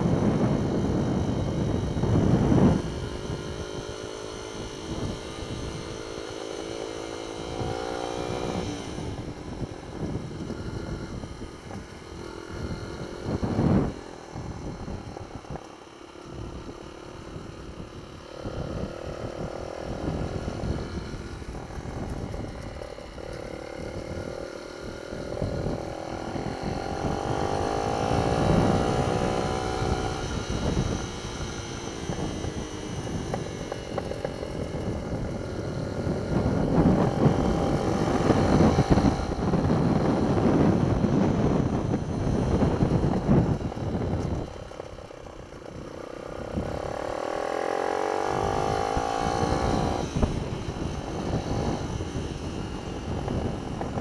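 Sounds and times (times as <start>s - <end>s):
minibike engine revving: 0.0s - 54.0s
wind buffeting microphone: 0.0s - 54.0s.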